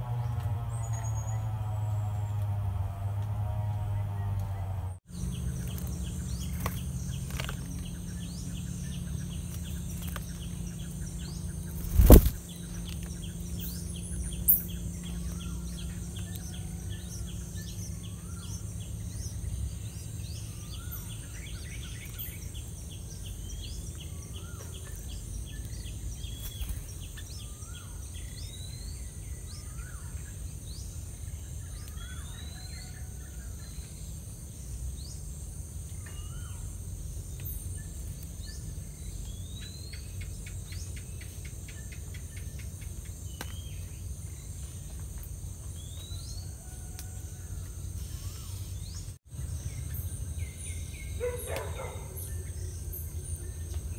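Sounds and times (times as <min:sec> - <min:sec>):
birds chirping: 0:03.7 - 0:53.9.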